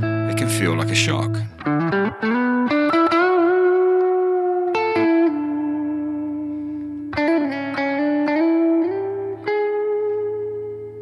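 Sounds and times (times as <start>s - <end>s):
clean electric guitar notes: 0.0s - 11.0s.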